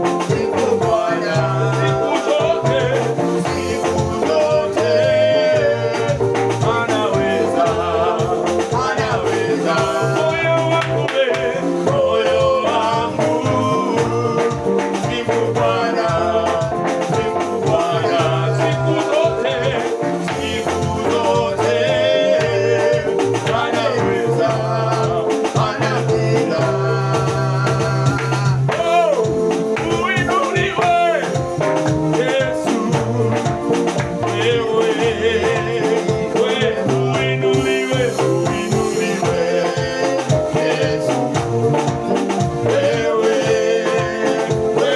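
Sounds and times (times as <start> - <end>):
upbeat praise music with singing: 0.0 - 44.9.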